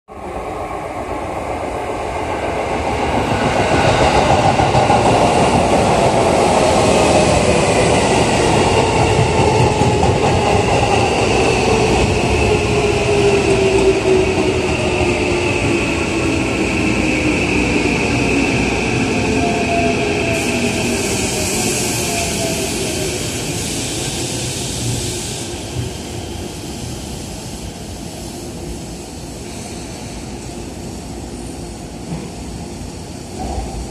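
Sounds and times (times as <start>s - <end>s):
train wheels rumbling on rails: 1.0s - 33.9s.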